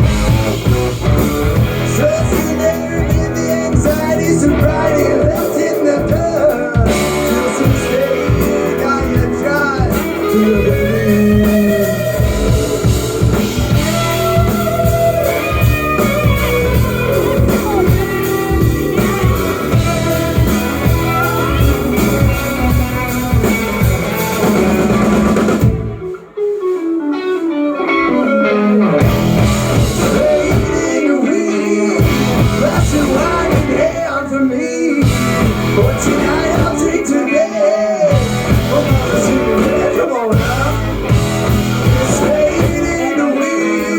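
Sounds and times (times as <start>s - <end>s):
bass guitar: 0.0s - 43.9s
drums: 0.0s - 43.9s
electric guitar: 0.0s - 43.9s.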